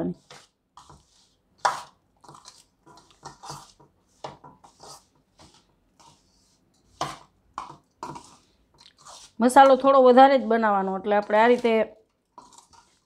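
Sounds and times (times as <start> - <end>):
spoon scraping in metal bowl: 0.1 - 13.0.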